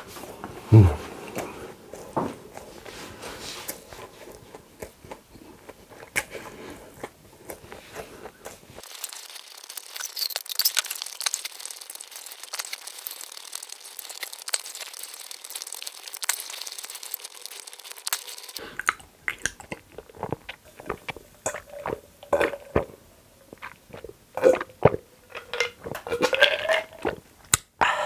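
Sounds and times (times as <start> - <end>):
chewing burger: 0.2 - 27.7.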